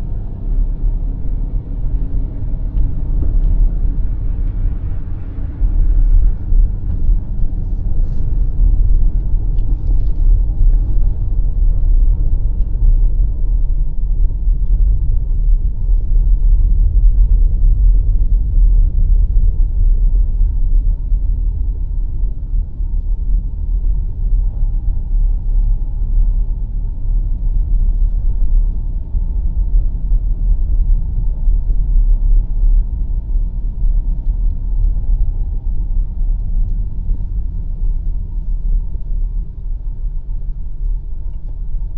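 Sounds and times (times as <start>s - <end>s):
tyre and road noise on snow: 0.0s - 41.9s.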